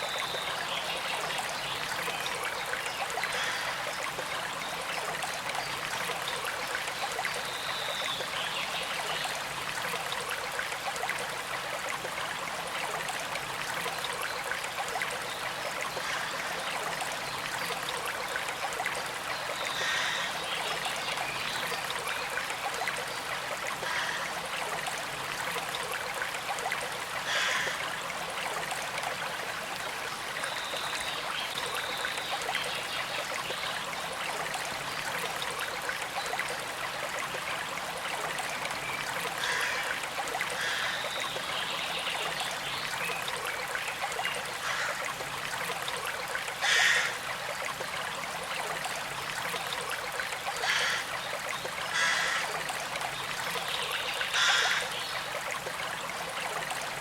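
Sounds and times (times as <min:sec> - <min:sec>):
creek water flowing over stones: 0:00.0 - 0:57.0.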